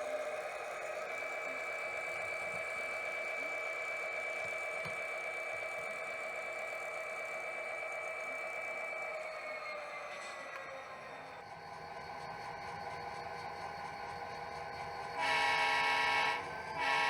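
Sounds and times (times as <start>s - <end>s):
model locomotive whine: 0.0s - 17.0s.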